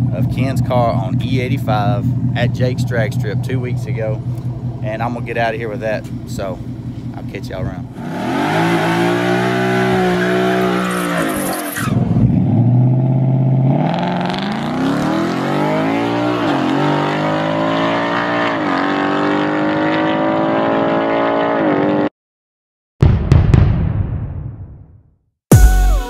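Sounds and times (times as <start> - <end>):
car engine revving: 0.0 - 22.1.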